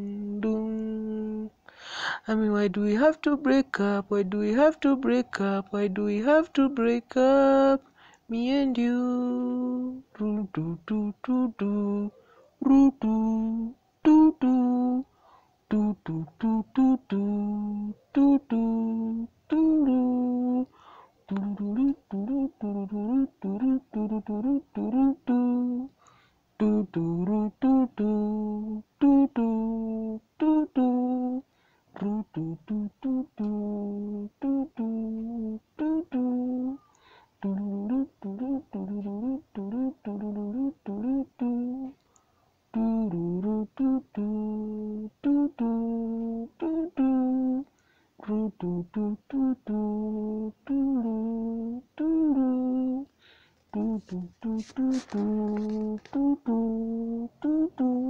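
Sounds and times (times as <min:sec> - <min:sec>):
person humming a melody: 0:00.0 - 0:15.1, 0:15.7 - 0:26.0, 0:26.6 - 0:42.0, 0:42.7 - 0:58.0.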